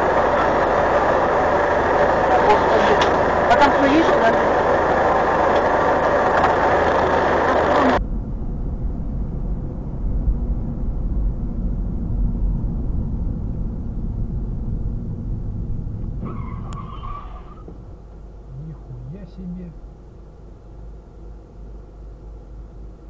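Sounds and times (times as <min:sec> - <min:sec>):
car cabin engine and road rumble: 0:00.0 - 0:23.0
dense noise inside a bus: 0:00.0 - 0:23.0.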